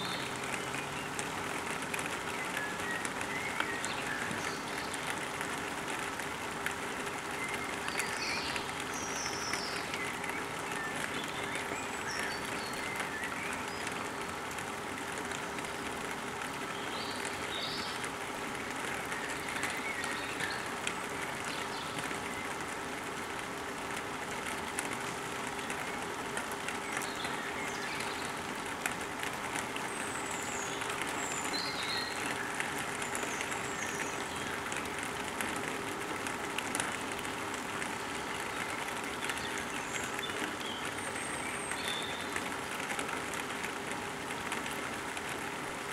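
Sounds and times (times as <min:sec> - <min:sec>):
birds chirping: 0:00.0 - 0:05.6, 0:06.6 - 0:14.5, 0:15.1 - 0:23.8, 0:25.1 - 0:28.9, 0:29.8 - 0:35.8, 0:37.0 - 0:43.8.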